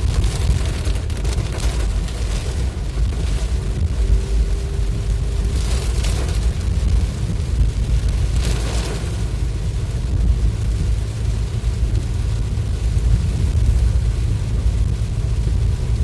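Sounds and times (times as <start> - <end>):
rain and road hiss: 0.0 - 16.0
vehicle rumble: 0.0 - 16.0.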